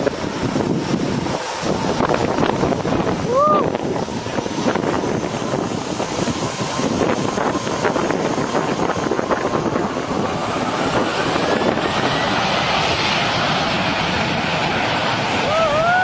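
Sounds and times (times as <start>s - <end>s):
jet engines roaring: 0.0s - 16.0s
turbine whine: 0.0s - 16.0s
wind buffeting microphone: 0.0s - 16.0s.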